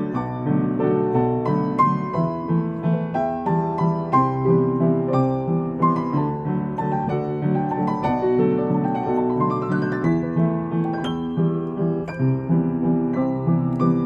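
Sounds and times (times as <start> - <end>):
piano four hands melody: 0.0 - 14.0.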